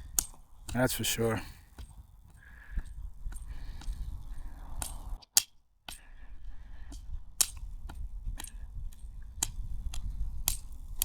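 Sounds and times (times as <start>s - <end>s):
wind buffeting microphone: 0.0s - 5.2s, 6.2s - 11.0s.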